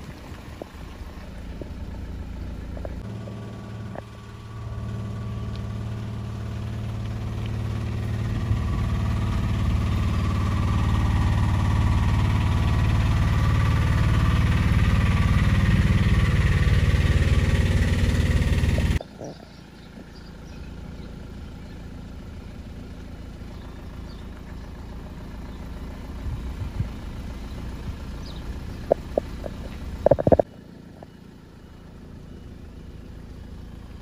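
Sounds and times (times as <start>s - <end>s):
diesel truck engine running: 0.0s - 34.0s
other truck engine: 0.0s - 34.0s.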